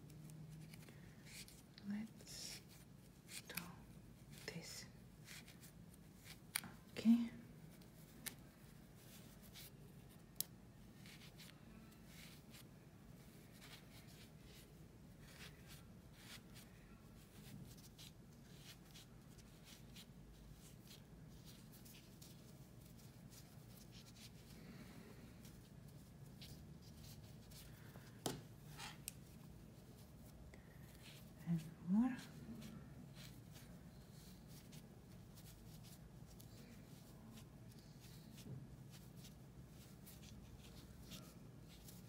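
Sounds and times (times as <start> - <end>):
rustling and scratching of stuffing: 0.0 - 42.0.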